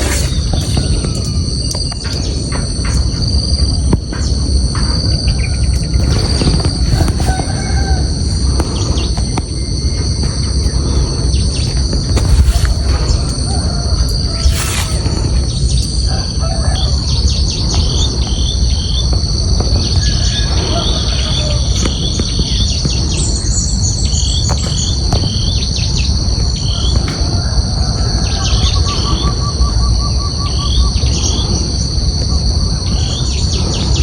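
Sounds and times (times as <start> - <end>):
insects droning: 0.0 - 34.0
low rumble: 0.0 - 34.0.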